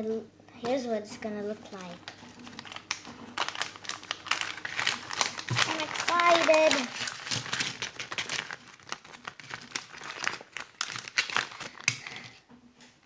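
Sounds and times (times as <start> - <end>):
packaging crinkling and rustling: 1.3 - 13.0.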